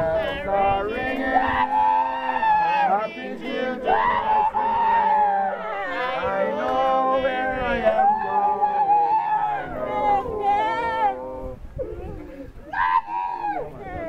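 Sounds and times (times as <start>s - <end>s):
congregation singing: 0.0s - 11.7s.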